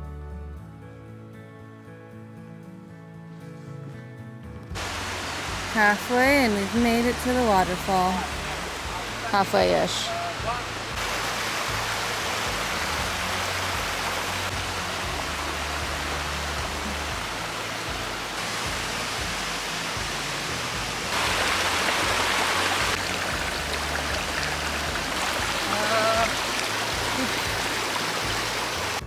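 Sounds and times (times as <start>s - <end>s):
waterfall and stream rushing: 4.7s - 29.0s.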